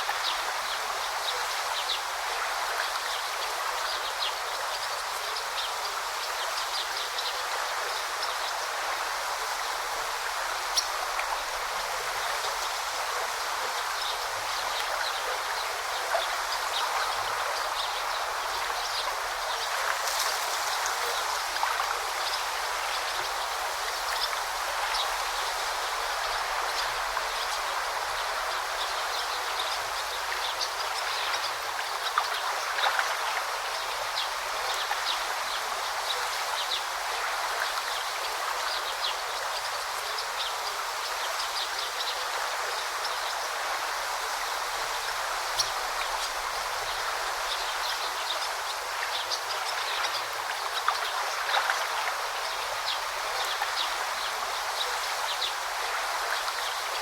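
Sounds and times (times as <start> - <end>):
river babbling and splashing: 0.0 - 57.0.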